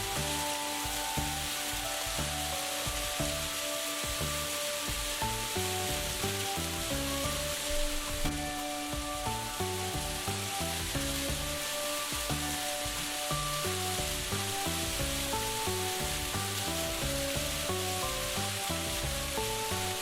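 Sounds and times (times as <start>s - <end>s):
background music: 0.0s - 20.0s
food sizzling: 0.0s - 20.0s.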